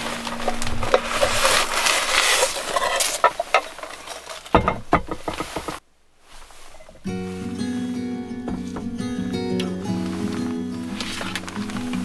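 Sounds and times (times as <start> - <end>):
fabric bag rustling: 0.0 - 12.0.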